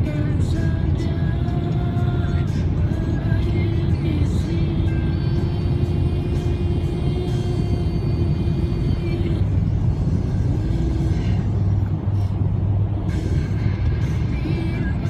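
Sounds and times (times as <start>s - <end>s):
car road and engine noise: 0.0s - 15.0s
music playing: 0.0s - 15.0s.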